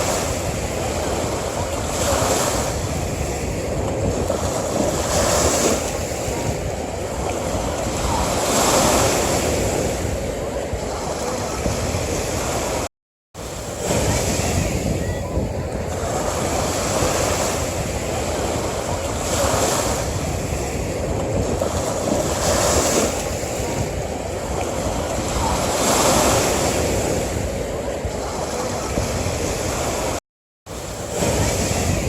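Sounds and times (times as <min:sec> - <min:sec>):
ocean waves washing onto beach: 0:00.0 - 0:32.0.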